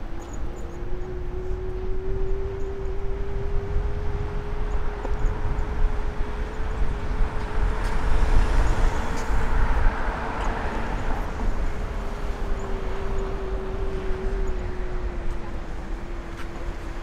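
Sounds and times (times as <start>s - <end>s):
vehicle tyre noise passing: 0.0s - 17.0s.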